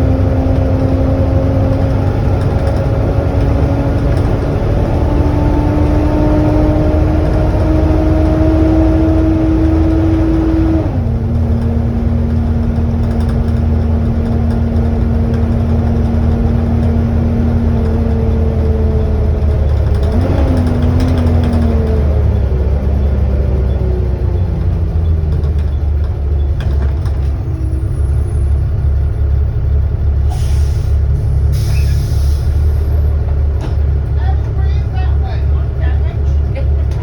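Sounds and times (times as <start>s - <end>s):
bus drivetrain rumble: 0.0s - 37.0s.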